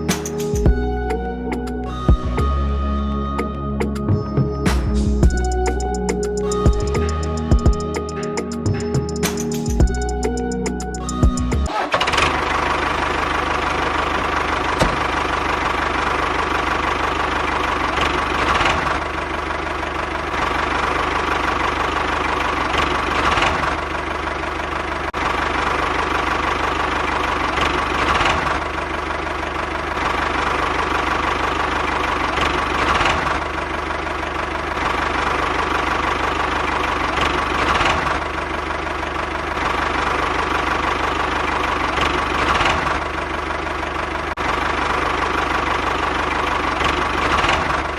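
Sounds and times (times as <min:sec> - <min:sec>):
engine-like hum with whine: 0:00.0 - 0:47.9.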